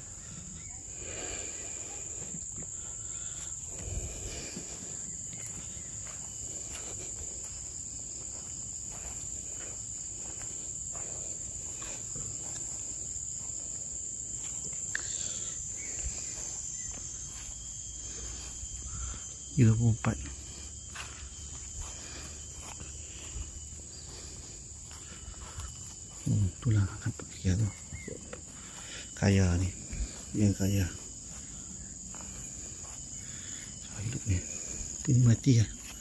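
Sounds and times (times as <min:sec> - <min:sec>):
insect chorus droning: 0:00.0 - 0:36.0.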